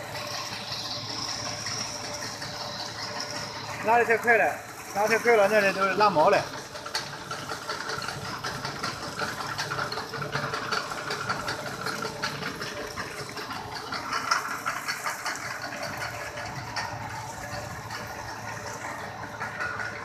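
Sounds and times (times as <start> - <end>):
machine running with fine clattering: 0.0 - 20.0.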